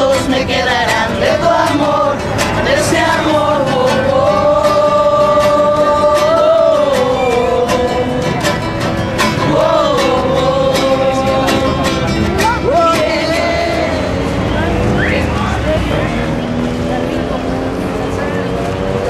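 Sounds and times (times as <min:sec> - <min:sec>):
people singing along: 0:00.0 - 0:17.8
acoustic guitar strumming: 0:00.0 - 0:19.0.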